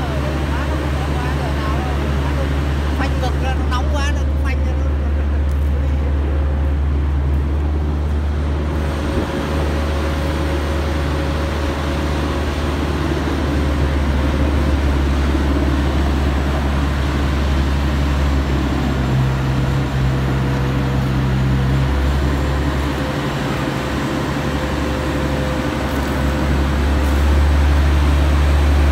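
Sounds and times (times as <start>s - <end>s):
diesel engine humming under load: 0.0s - 28.9s.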